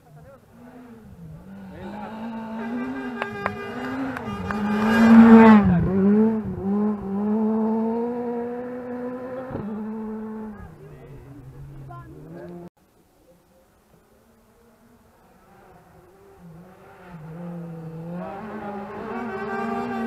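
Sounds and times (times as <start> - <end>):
rally car engine at full throttle: 0.0 - 12.7, 13.8 - 20.0.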